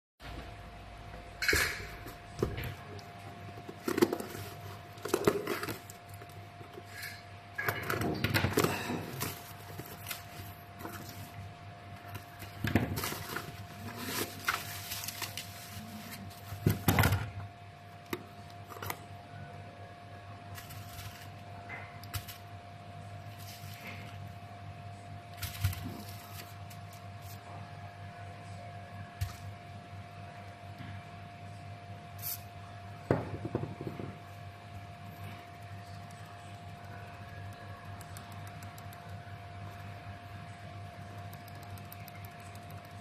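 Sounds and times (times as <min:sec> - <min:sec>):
faint steady hum: 0:00.2 - 0:43.0.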